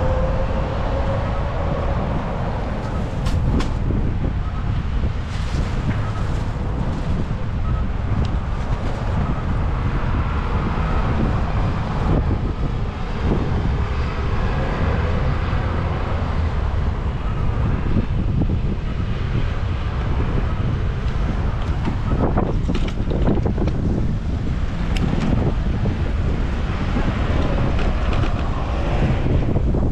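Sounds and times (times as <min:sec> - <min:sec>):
vehicle traffic hum: 0:00.0 - 0:29.9
wind rumbling on microphone: 0:00.0 - 0:29.9.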